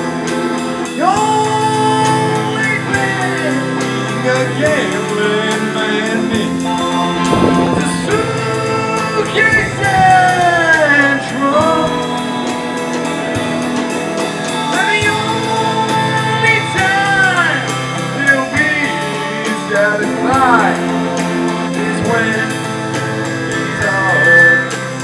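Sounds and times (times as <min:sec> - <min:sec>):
drums: 0:00.0 - 0:25.0
guitars: 0:00.0 - 0:25.0
man singing long notes: 0:00.0 - 0:25.0.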